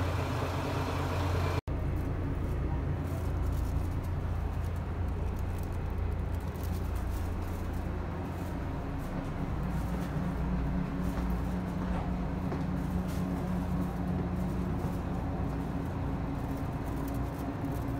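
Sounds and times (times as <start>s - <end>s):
diesel engine drone: 0.0s - 17.9s.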